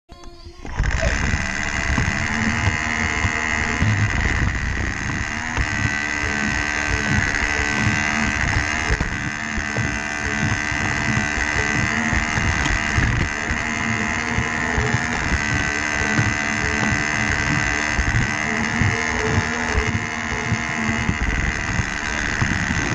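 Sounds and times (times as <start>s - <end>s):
small electric motor whining: 0.1s - 22.9s
wheels clicking on plastic track: 0.7s - 22.9s.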